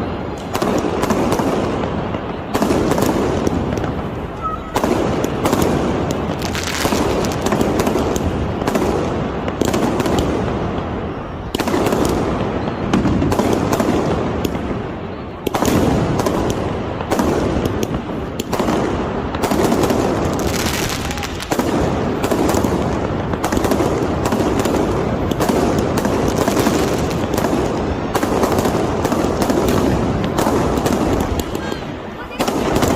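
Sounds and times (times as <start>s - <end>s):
fireworks bursts: 0.0s - 32.9s
fireworks crackling and popping: 0.0s - 32.9s.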